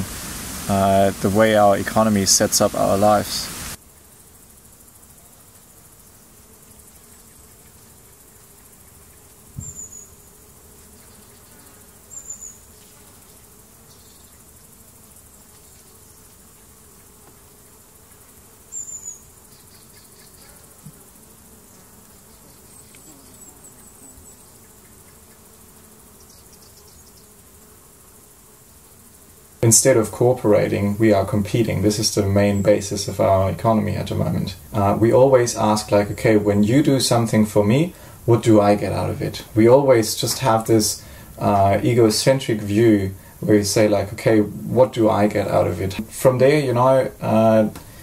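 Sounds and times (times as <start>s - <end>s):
steady insect buzz: 0.0s - 48.0s.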